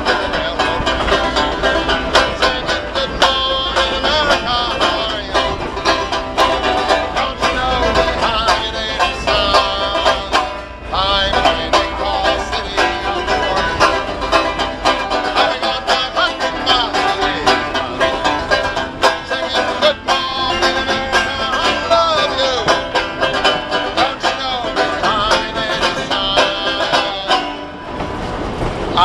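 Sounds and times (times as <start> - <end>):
man singing: 0.0 - 27.8
banjo picking fast notes: 0.0 - 28.5.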